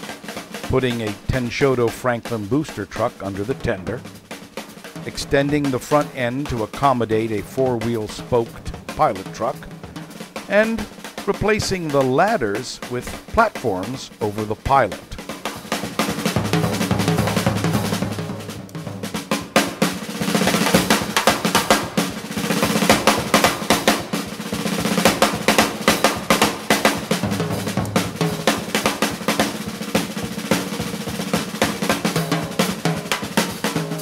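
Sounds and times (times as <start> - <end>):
fast drum strokes: 0.0 - 34.0.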